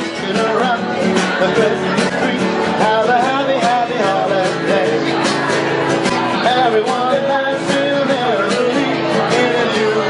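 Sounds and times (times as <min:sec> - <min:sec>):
men singing: 0:00.0 - 0:10.0
strummed acoustic guitars: 0:00.0 - 0:10.0.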